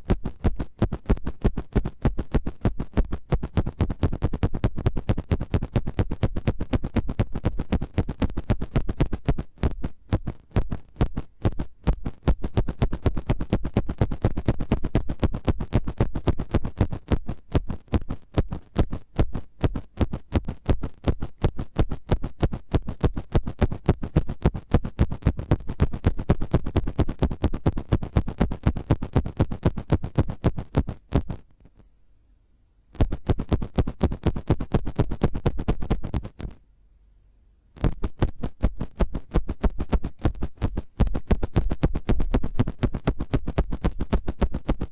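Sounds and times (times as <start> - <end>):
rapid scratching close to microphone: 0.0 - 31.8, 33.0 - 36.6, 37.8 - 44.9.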